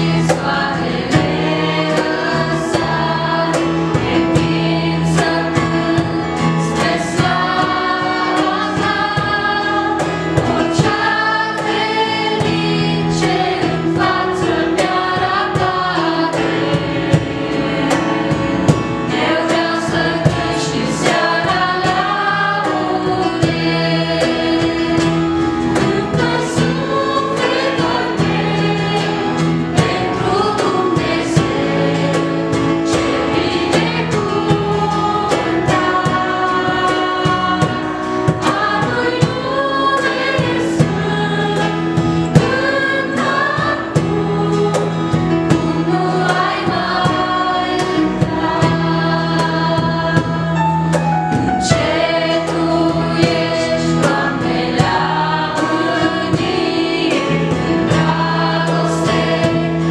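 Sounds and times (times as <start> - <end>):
acoustic guitar: 0.0 - 59.9
keyboard: 0.0 - 59.9
young singers in harmony: 0.0 - 59.9.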